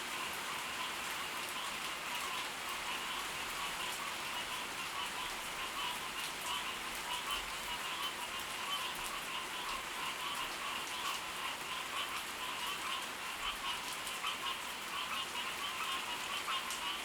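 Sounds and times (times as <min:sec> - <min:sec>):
steady rain falling: 0:00.0 - 0:17.0
frogs calling: 0:00.2 - 0:17.0.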